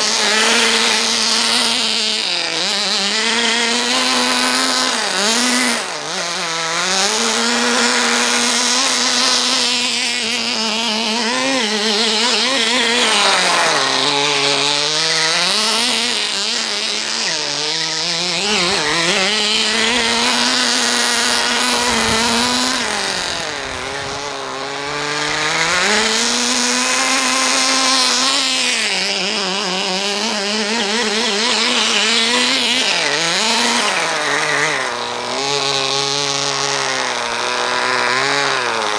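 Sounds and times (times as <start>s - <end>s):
small nitro engine revving: 0.0s - 38.9s.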